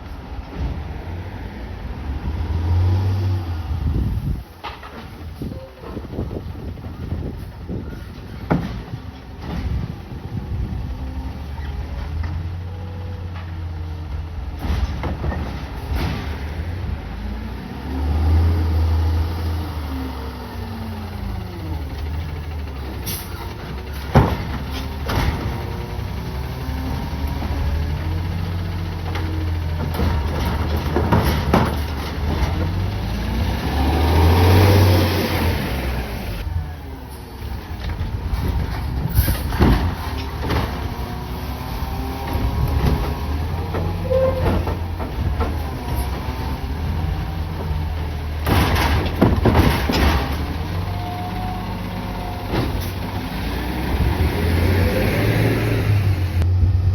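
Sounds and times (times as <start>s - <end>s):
garbage truck engine revving: 9.3s - 56.9s.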